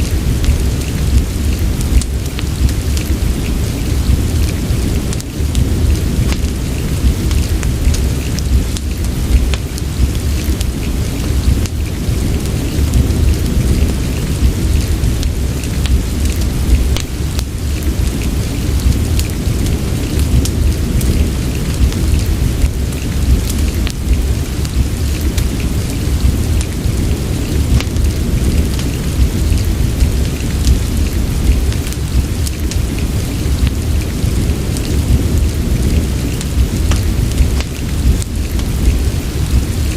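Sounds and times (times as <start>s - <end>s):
deep low rumble: 0.0s - 39.9s
steady rain: 0.0s - 39.9s
wood fire crackling and popping: 0.0s - 39.9s.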